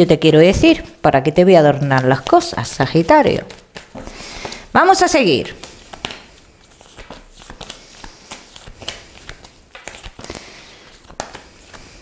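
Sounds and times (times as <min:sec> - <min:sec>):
cards being shuffled: 0:01.7 - 0:12.0.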